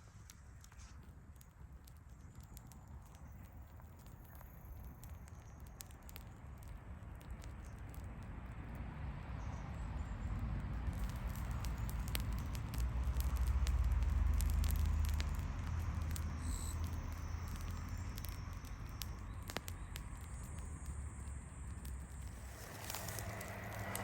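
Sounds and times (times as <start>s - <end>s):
wind rumble on microphone: 0.0s - 24.0s
wood fire crackling and popping: 0.0s - 24.0s.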